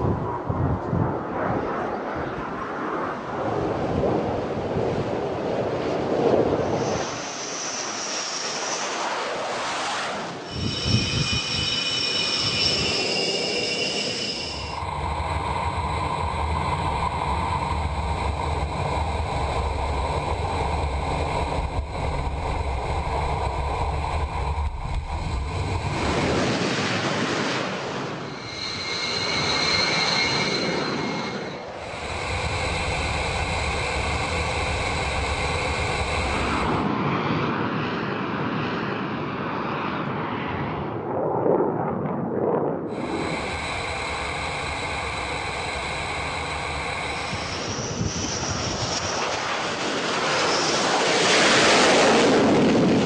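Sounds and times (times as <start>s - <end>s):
jet engines running with whine: 0.0s - 53.0s.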